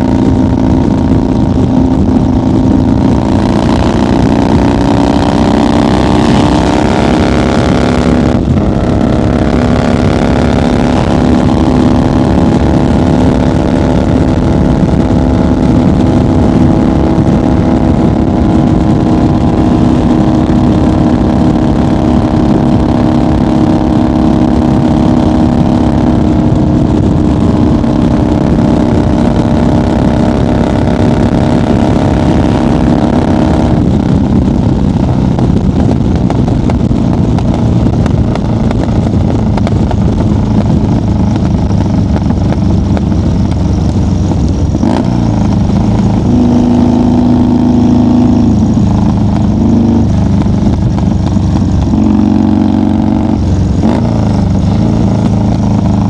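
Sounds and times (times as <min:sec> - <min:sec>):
motorcycle engine at highway speed: 0:00.0 - 0:56.0
wind rushing: 0:00.0 - 0:56.0.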